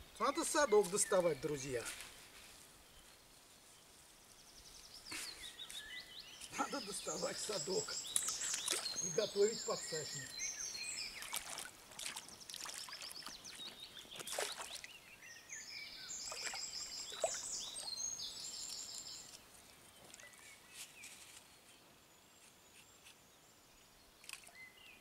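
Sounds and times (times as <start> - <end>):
faint outdoor ambience: 0.0 - 25.0
songbird singing: 0.0 - 25.0.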